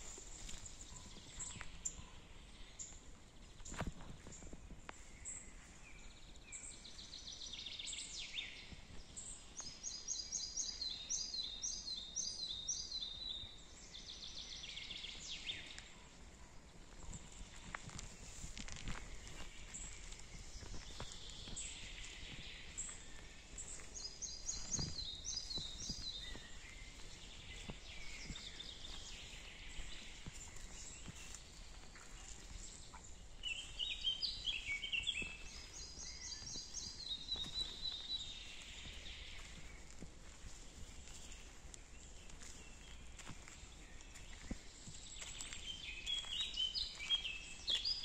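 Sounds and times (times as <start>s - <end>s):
footsteps on forest path: 0.0s - 48.0s
songbirds singing: 0.0s - 48.0s.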